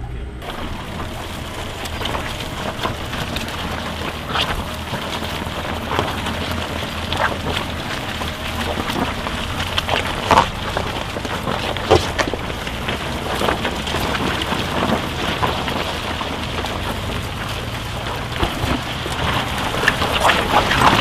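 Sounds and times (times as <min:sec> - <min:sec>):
low engine rumble: 0:00.0 - 0:21.0
tyres crackling through mud and snow: 0:00.0 - 0:21.0.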